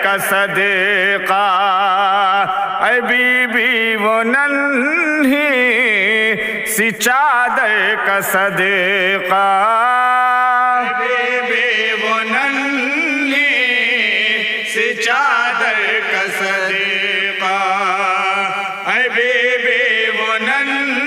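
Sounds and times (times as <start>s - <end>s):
men chanting: 0.0s - 21.0s.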